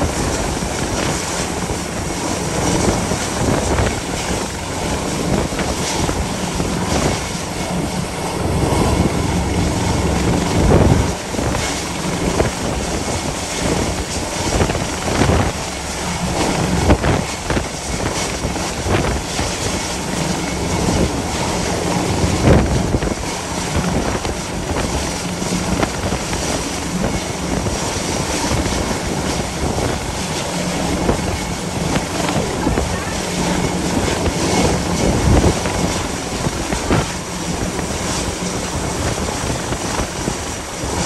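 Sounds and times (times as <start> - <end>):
helicopter rotor drone: 0.0 - 41.0
wind buffeting microphone: 0.0 - 41.0.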